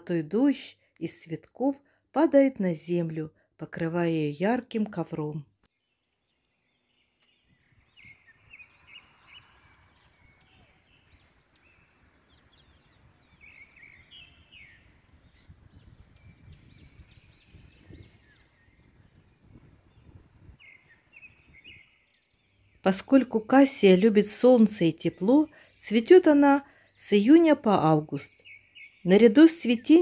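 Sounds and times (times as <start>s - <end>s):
small birds chirping: 4.2s - 30.0s.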